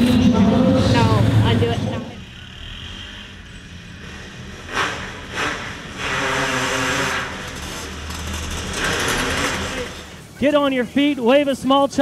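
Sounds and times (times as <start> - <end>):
engine blips: 0.0 - 11.6
distant kart engines: 0.0 - 12.0.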